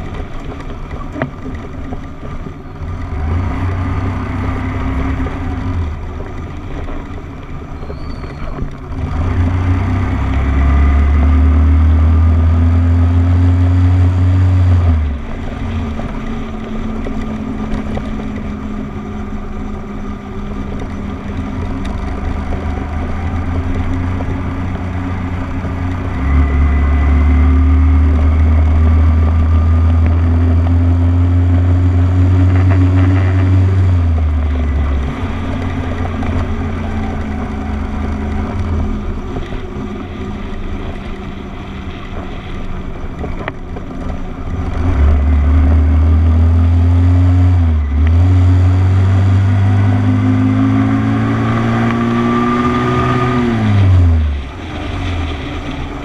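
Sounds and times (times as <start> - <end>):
deep rumble: 0.0 - 56.0
small motorcycle engine running: 0.0 - 56.0.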